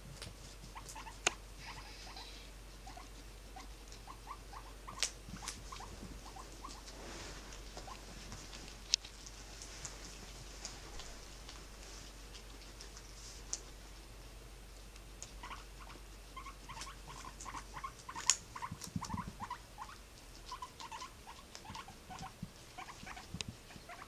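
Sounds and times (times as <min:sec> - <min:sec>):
small animals chewing hay: 0:00.0 - 0:24.0.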